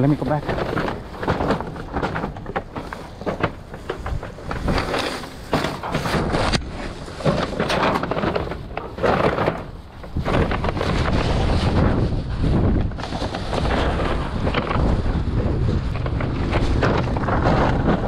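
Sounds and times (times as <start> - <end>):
plastic bags rustling: 0.0 - 18.0.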